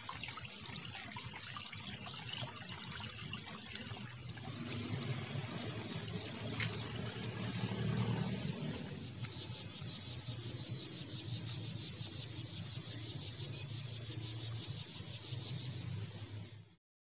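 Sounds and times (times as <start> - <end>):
insects chirring: 0.0 - 16.8.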